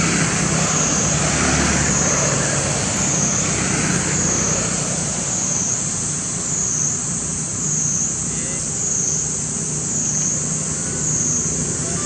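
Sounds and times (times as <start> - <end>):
droning insect chorus: 0.0 - 12.0.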